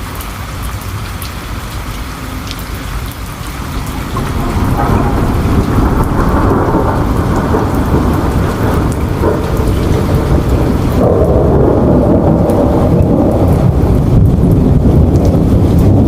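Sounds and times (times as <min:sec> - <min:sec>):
heavy rain: 0:00.0 - 0:16.0
thunder rumbling: 0:02.3 - 0:16.0.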